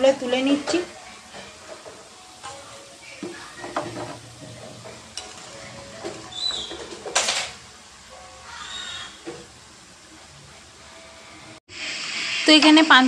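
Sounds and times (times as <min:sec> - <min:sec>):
hot oil sizzling and bubbling: 0:00.0 - 0:13.0.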